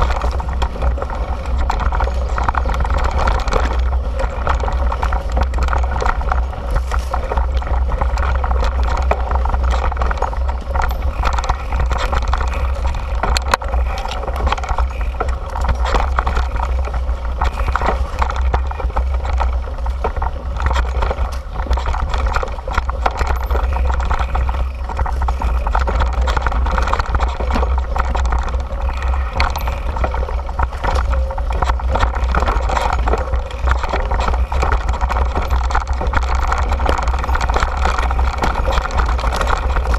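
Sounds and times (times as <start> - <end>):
bike clattering over bumps: 0.0 - 39.9
knobby tyres rolling over dirt: 0.0 - 39.9
wind rush on microphone: 0.0 - 39.9.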